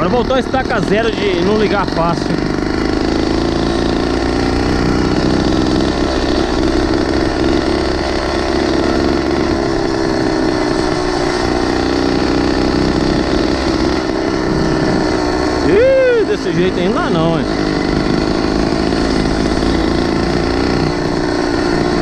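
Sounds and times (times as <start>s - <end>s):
small motorized bicycle engine: 0.0s - 22.0s.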